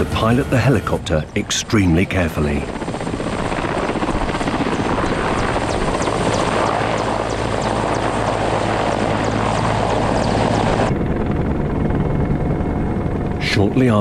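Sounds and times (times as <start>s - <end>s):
helicopter lifting off: 0.0s - 14.0s.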